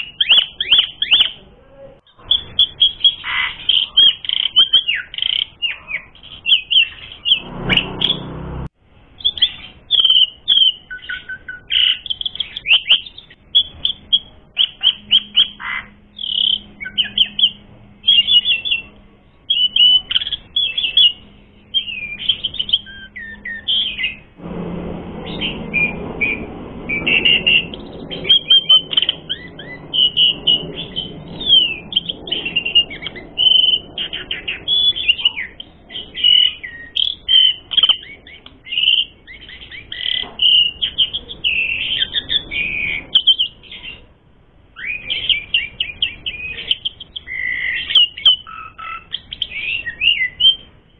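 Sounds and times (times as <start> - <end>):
starling singing chirps and trills: 0.0 - 1.4, 2.1 - 24.4, 25.2 - 44.1, 44.8 - 50.9.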